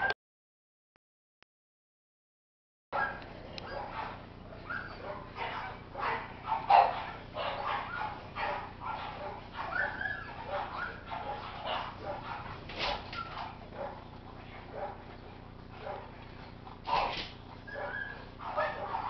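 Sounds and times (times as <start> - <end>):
dogs barking and whining: 3.0 - 19.0.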